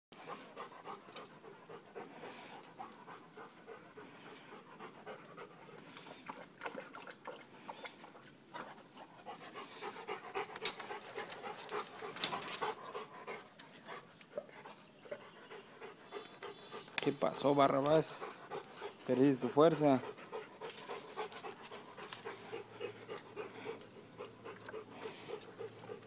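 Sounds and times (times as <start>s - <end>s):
dog panting: 0.1s - 26.0s.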